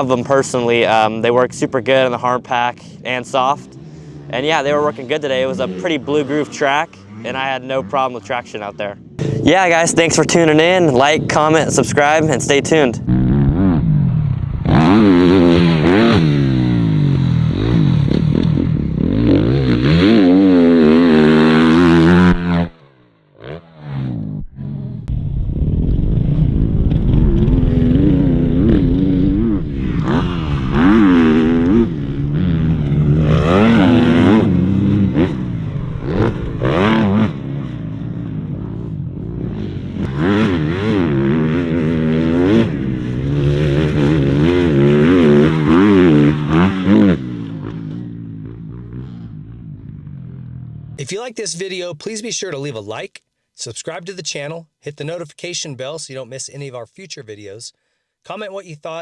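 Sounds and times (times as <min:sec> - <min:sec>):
motorcycle engine revving: 0:03.1 - 0:51.0.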